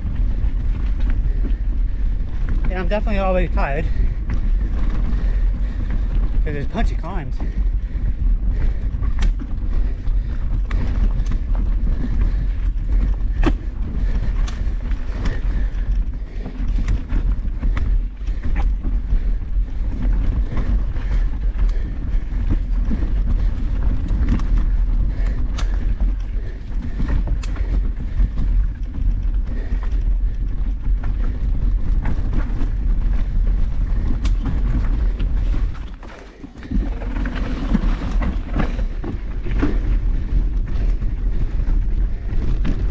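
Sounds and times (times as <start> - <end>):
bike clicking and rattling: 0.0 - 42.9
wind rumbling on microphone: 0.0 - 42.9.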